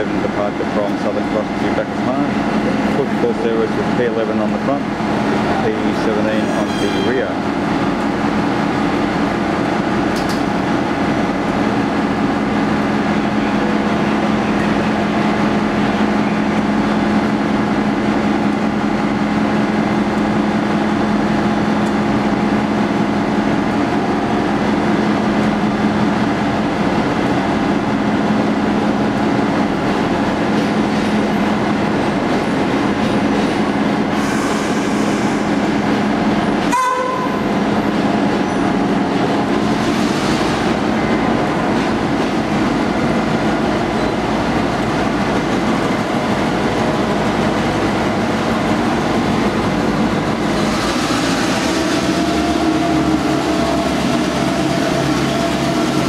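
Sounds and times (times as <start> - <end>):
train machine hum: 0.0 - 56.0.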